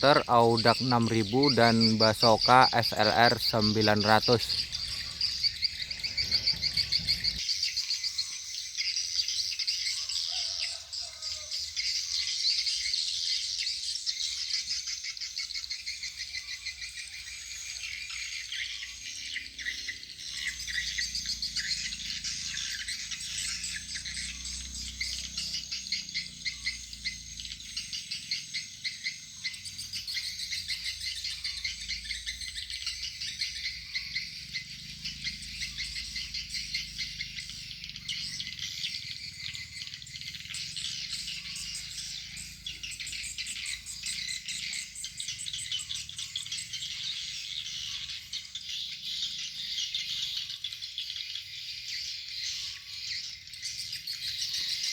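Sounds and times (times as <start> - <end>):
high-pitched chirping trills: 0.0 - 7.5, 16.1 - 54.9.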